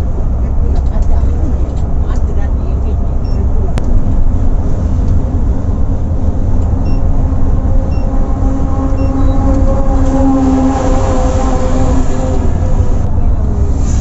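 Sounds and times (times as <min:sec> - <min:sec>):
bus engine rumble: 0:00.0 - 0:14.0
humming engine note: 0:00.0 - 0:14.0.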